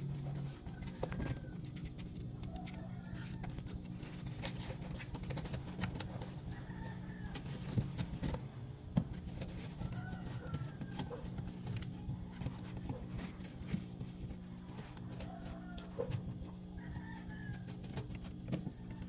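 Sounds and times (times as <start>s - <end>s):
clicks and knocks of plastic parts: 0.0s - 16.5s
low hum: 0.0s - 19.0s.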